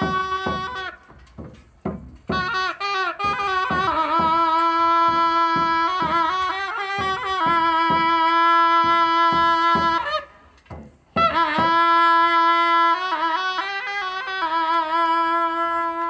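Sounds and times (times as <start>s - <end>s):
drum beats: 0.0s - 15.6s
reed pipe playing held notes: 0.0s - 16.0s.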